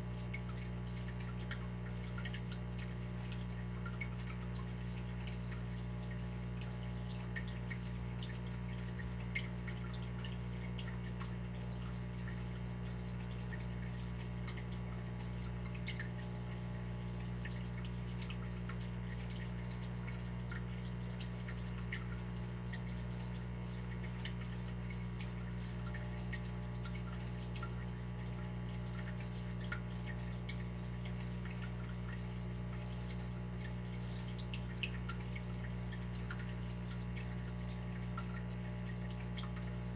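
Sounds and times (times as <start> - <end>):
water dripping into water: 0.0 - 39.9.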